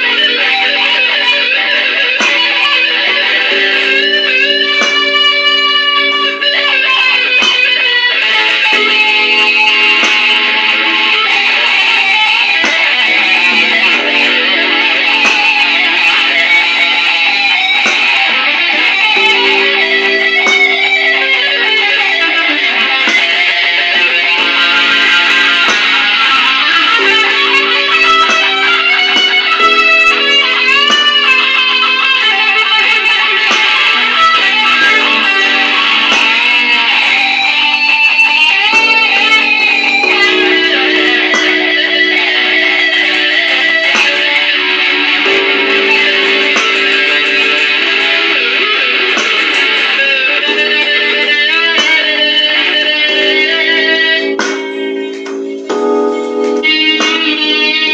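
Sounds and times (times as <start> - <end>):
electric guitar blues lead: 0.0 - 57.9
held guitar chords: 0.0 - 57.9.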